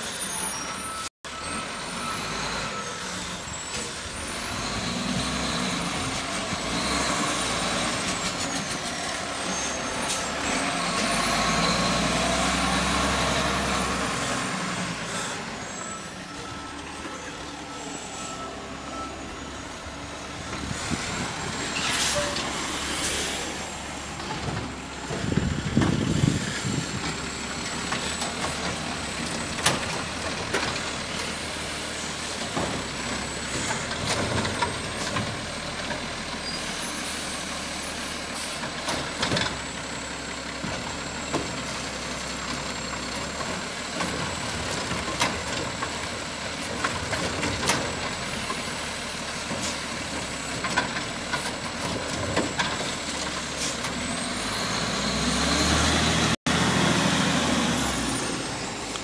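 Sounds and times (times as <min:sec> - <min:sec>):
garbage truck engine with whine: 0:00.0 - 0:59.0.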